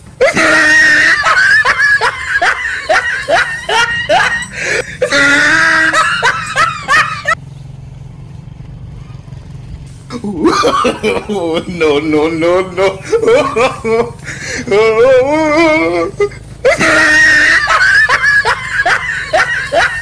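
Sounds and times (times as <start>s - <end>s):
person laughing in high bursts: 0.2s - 7.4s, 10.1s - 20.0s.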